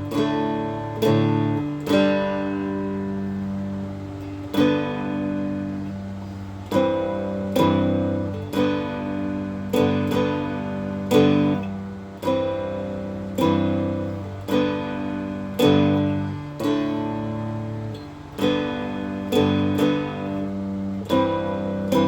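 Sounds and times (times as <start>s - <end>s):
guitar strummed in slow chords: 0.0s - 22.0s.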